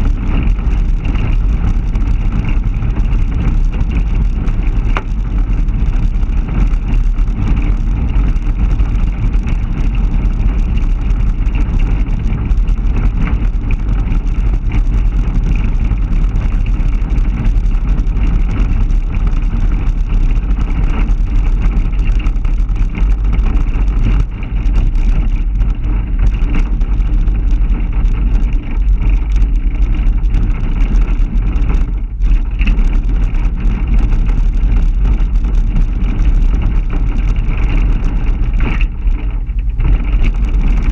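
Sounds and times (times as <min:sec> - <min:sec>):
pickup truck engine and road noise: 0:00.0 - 0:40.9
wind buffeting microphone: 0:00.0 - 0:40.9.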